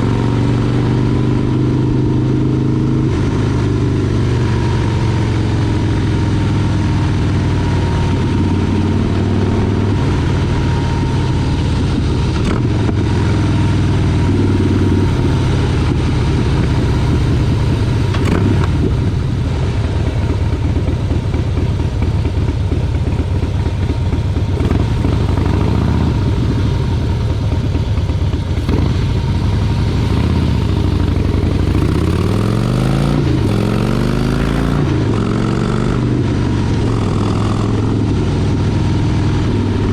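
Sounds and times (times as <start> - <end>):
motorcycle engine revving: 0.0 - 39.9
steady rushing noise: 3.0 - 39.9.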